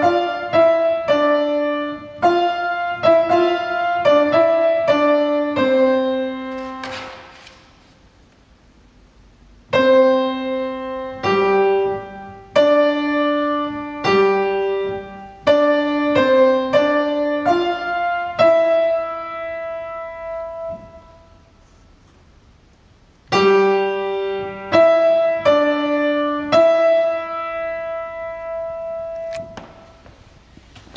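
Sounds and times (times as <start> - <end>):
piano melody: 0.0 - 7.3, 9.7 - 21.6, 23.2 - 30.1.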